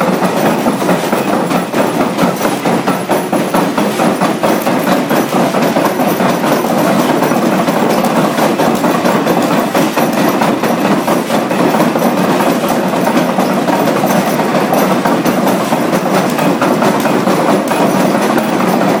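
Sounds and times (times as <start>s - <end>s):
stamp mill clattering: 0.0s - 19.0s.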